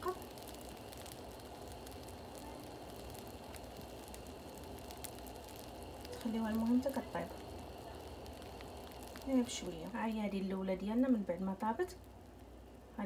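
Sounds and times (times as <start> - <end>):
batter sizzling in a frying pan: 0.0 - 13.0
tiny crackles: 0.0 - 13.0.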